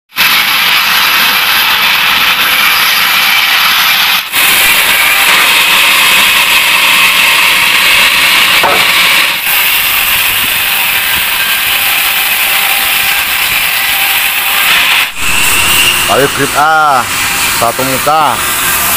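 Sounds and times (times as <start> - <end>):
band sawmill cutting log: 0.1 - 18.9.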